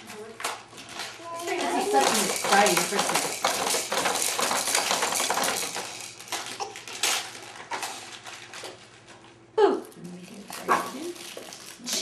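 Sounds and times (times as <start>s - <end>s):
wrapping paper rustling: 0.0s - 9.4s, 10.0s - 12.0s.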